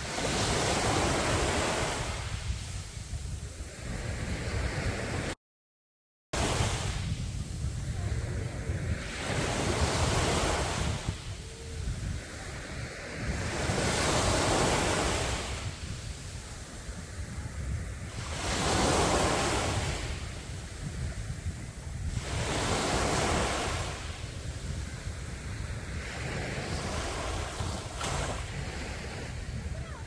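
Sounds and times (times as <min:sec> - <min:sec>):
sea waves breaking: 0:00.0 - 0:03.1, 0:06.4 - 0:30.0
wind rumbling on microphone: 0:00.0 - 0:05.4, 0:06.4 - 0:30.0.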